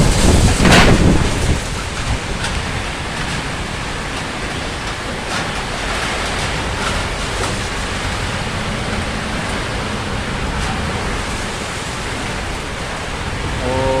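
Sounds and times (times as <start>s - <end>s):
heavy rain: 0.0s - 14.0s
storm wind: 0.0s - 14.0s.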